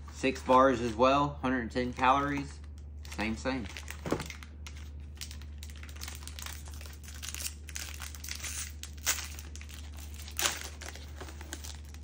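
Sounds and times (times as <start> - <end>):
steady low hum: 0.0 - 12.0
plastic wrapper crinkling: 2.2 - 12.0.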